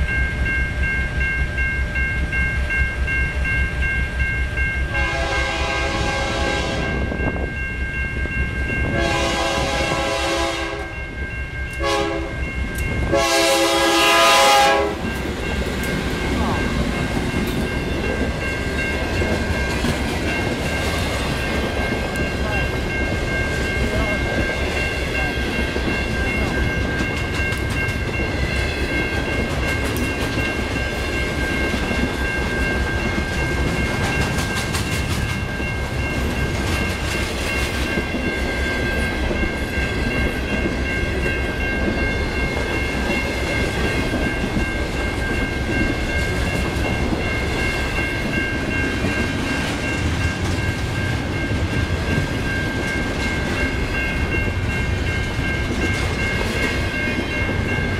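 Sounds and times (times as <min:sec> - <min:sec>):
crossing warning bell ringing: 0:00.0 - 0:57.9
freight train rumbling past: 0:00.0 - 0:57.9.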